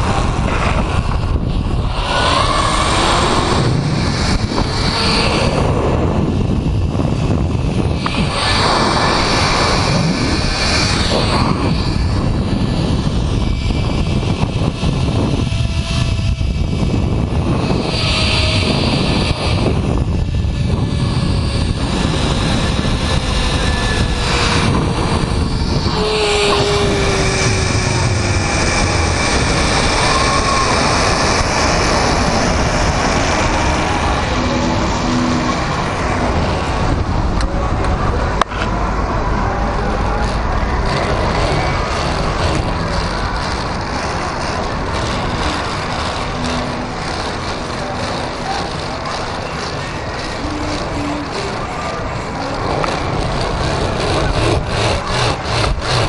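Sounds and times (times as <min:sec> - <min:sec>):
faint descending whine: 0:00.0 - 0:55.4
wind on microphone: 0:00.0 - 0:56.0
zip-line trolley whirring on cable: 0:00.0 - 0:56.0.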